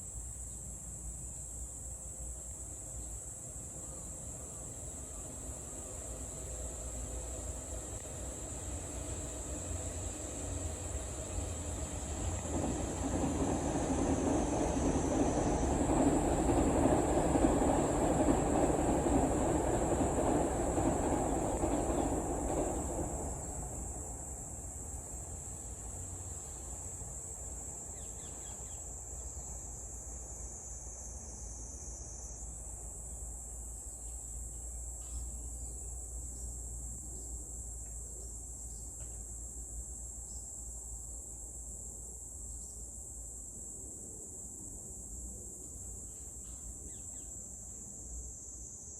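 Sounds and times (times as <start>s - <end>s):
cicadas buzzing: 0.0s - 48.9s.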